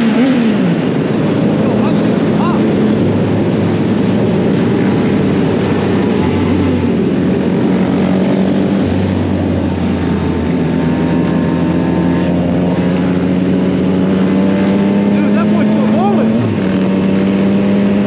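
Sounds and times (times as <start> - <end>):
wind noise: 0.0 - 15.2.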